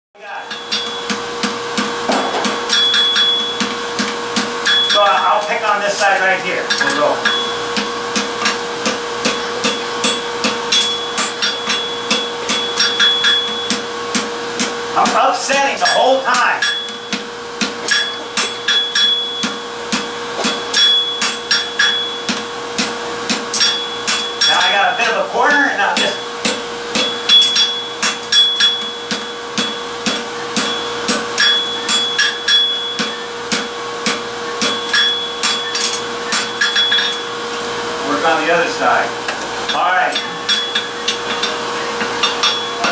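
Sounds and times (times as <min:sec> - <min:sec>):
steady hum: 0:00.2 - 0:42.9
hammer striking hot steel on anvil: 0:00.3 - 0:37.7, 0:38.6 - 0:42.9.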